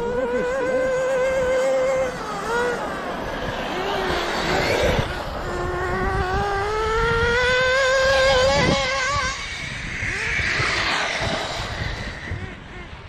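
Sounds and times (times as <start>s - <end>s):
rc car engine whining: 0.0s - 13.0s
wind rumble on microphone: 0.0s - 13.0s.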